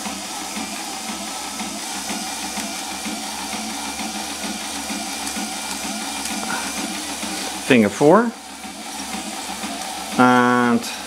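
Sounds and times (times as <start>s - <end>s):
motors and compressor whirring: 0.0s - 11.0s.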